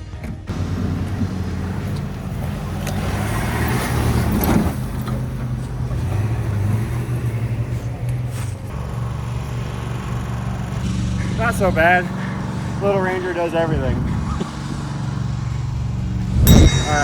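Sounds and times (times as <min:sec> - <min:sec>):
utility vehicle engine under load: 0:00.5 - 0:16.8.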